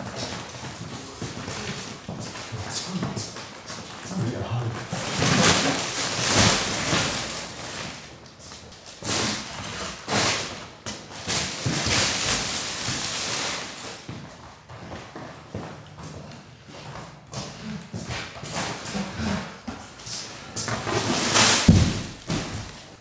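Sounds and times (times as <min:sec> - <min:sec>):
plastic bags rustling and scraping: 0:00.0 - 0:15.5, 0:18.1 - 0:23.0.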